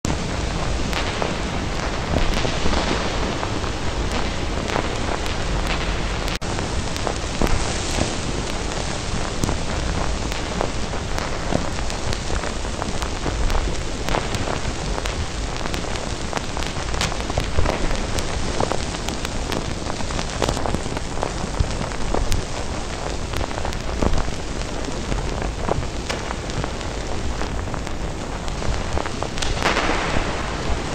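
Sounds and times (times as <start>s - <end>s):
steady rain: 0.0s - 30.9s
raindrops tapping: 0.1s - 30.9s.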